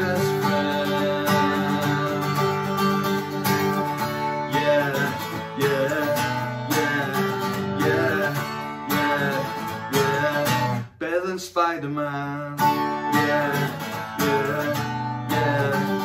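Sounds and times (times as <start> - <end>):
acoustic guitar strumming: 0.0 - 16.0
man singing: 0.0 - 16.0.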